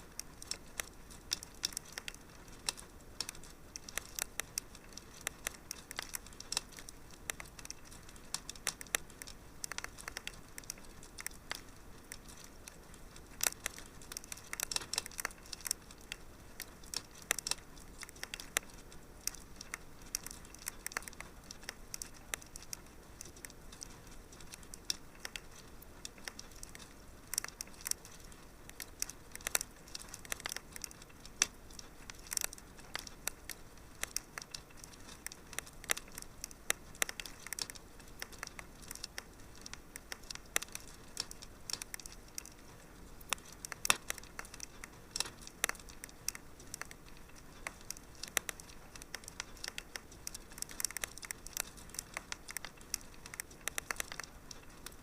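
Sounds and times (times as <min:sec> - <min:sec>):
faint steady hiss: 0:00.0 - 0:55.0
fireplace fire crackling: 0:00.0 - 0:55.0.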